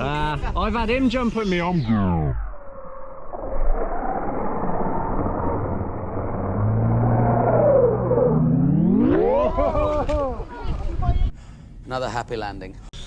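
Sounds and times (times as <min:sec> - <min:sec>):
steady rumbling noise: 0:00.0 - 0:11.4.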